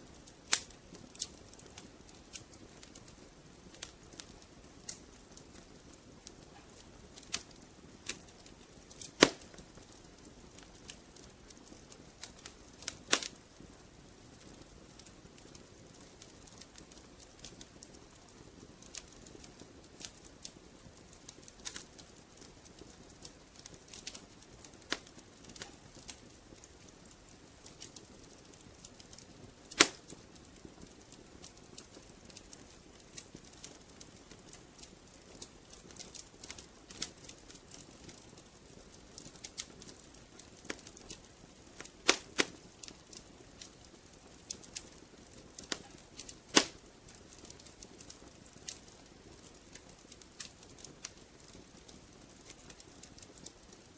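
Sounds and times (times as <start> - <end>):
wood fire crackling: 0.0 - 53.9
fire pops: 0.2 - 53.9.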